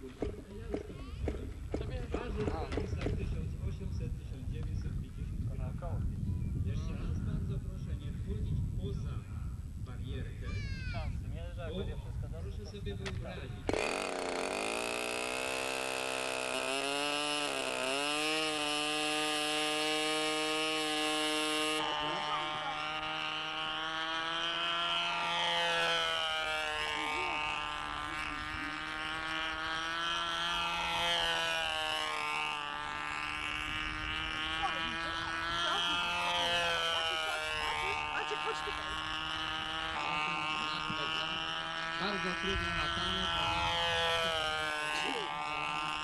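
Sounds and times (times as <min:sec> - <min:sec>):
model airplane engine buzzing: 0:00.0 - 0:46.0.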